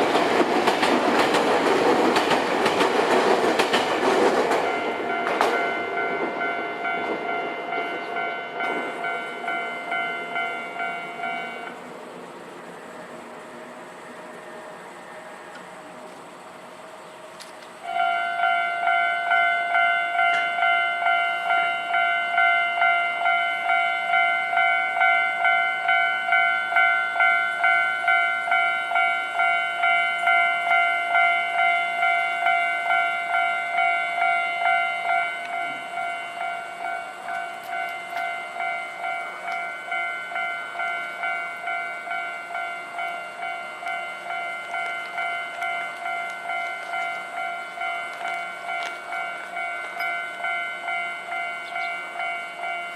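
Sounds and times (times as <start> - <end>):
level crossing warning bell: 0.0 - 2.9, 3.6 - 11.8, 17.8 - 52.9.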